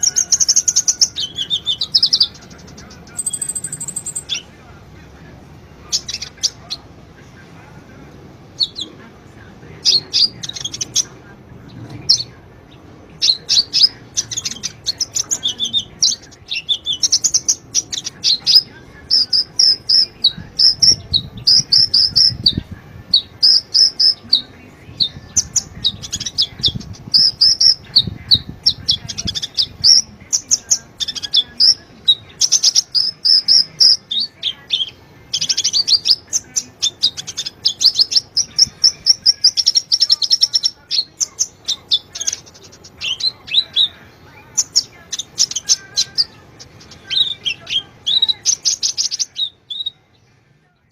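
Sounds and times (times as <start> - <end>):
sunbird chirps and trills: 0.0 - 4.5, 9.8 - 50.4.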